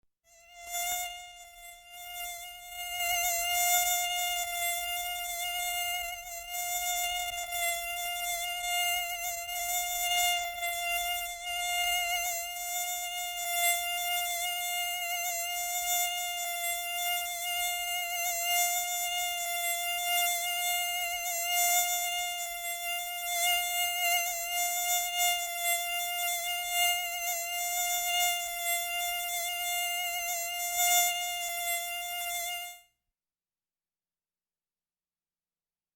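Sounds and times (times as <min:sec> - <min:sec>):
mosquito buzzing: 0:00.3 - 0:33.0.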